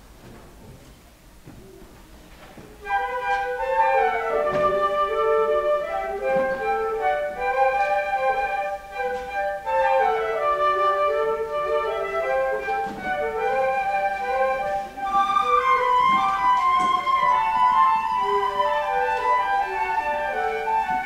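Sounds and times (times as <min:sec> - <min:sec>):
flute-like organ melody: 0:02.8 - 0:21.0.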